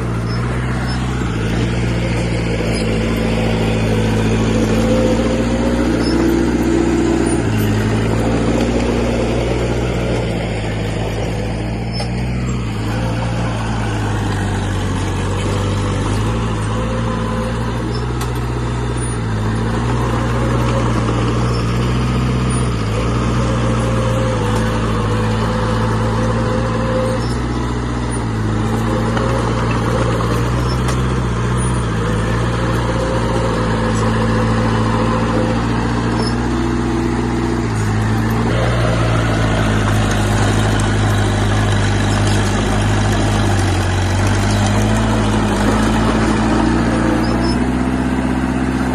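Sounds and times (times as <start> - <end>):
diesel machine engine under load: 0.0 - 48.9.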